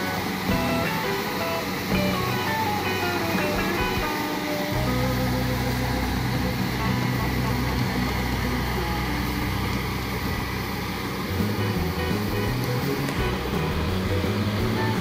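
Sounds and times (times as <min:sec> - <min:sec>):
diesel engine hum: 0:00.0 - 0:15.0
whirr of threshing machinery: 0:00.0 - 0:15.0.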